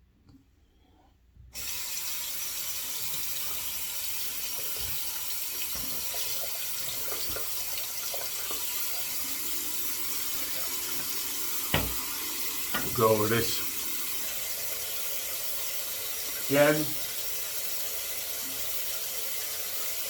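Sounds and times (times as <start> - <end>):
tap water running into sink: 1.6 - 20.0.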